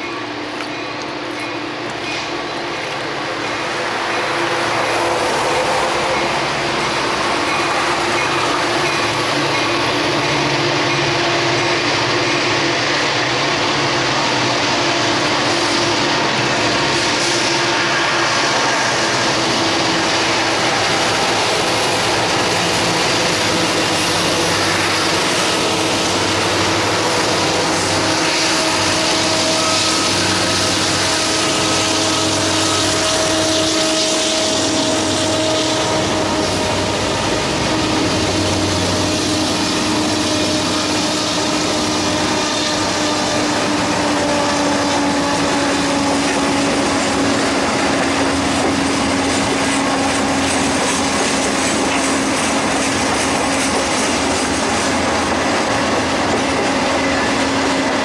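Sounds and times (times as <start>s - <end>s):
diesel locomotive engine drone: 0.0s - 58.0s
train wheels rolling on rails: 0.0s - 58.0s.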